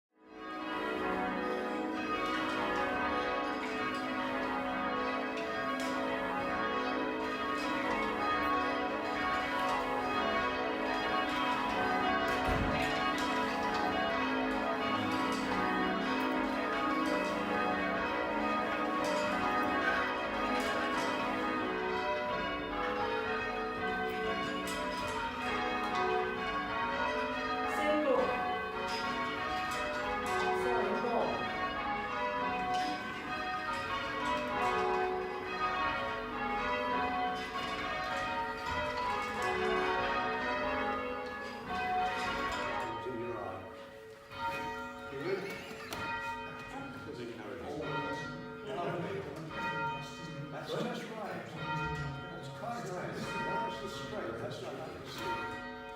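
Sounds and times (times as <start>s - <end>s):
church bells change-ringing: 0.2s - 55.9s.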